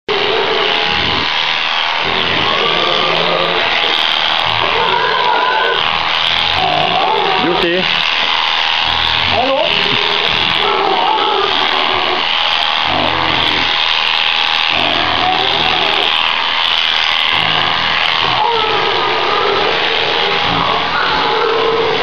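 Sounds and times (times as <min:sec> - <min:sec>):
electric shears buzzing: 0:00.1 - 0:22.0.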